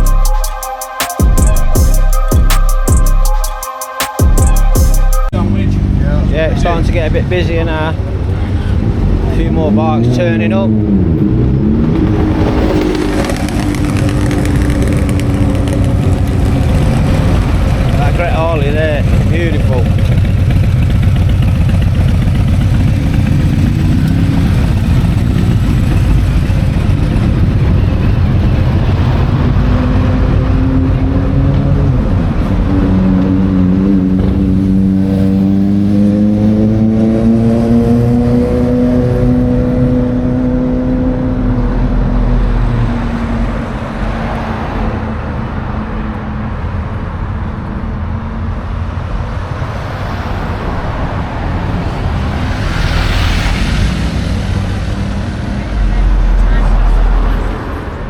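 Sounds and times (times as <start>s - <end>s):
motorbike and vehicle engines: 5.3s - 58.0s.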